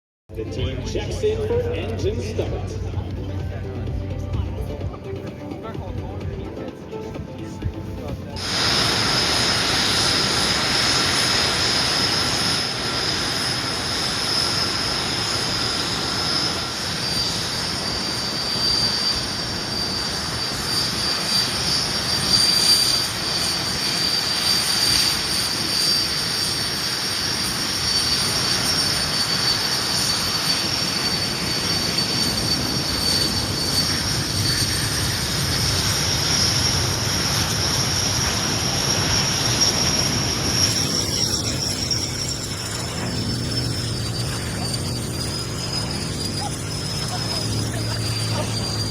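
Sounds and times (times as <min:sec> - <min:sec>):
jet engine rumble: 0:00.3 - 0:48.9
jet turbine whine: 0:00.3 - 0:48.9.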